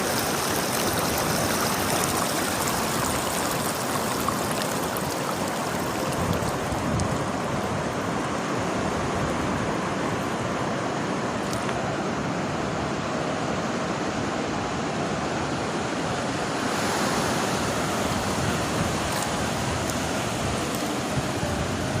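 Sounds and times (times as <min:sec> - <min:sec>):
waves washing: 0:00.0 - 0:22.0.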